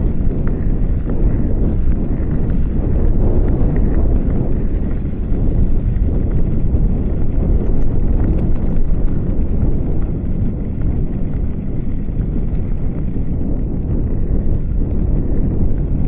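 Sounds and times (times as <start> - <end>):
bicycle rolling: 0.0 - 16.0
wind buffeting microphone: 0.0 - 16.0.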